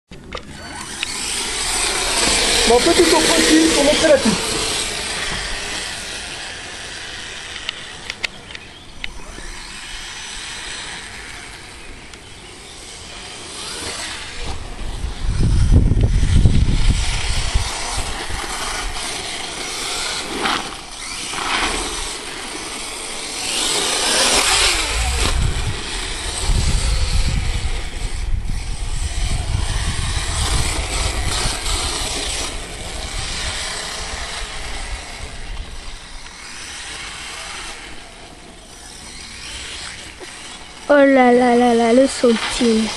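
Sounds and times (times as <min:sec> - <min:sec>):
rc truck motor buzzing: 0:00.1 - 0:42.9.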